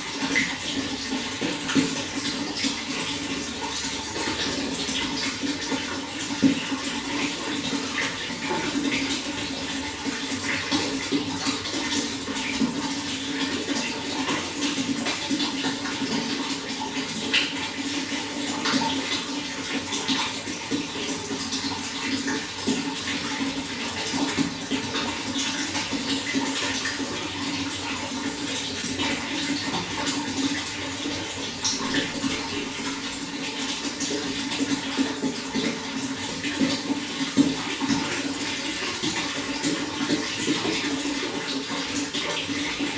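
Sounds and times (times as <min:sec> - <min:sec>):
running water with splashes: 0:00.0 - 0:42.9.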